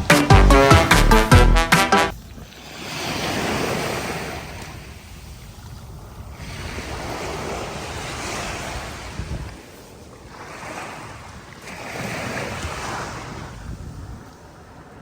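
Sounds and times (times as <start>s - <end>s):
wind on microphone: 2.1s - 15.0s
sea waves washing onto beach: 2.2s - 15.0s.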